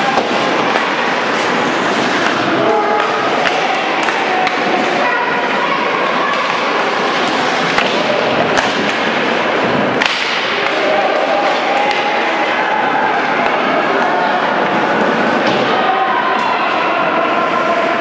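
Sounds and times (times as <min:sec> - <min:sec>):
shouting voices: 0:00.0 - 0:09.6, 0:10.3 - 0:18.0
skates and sticks on ice: 0:00.0 - 0:16.5
pucks and players hitting boards: 0:00.0 - 0:17.5.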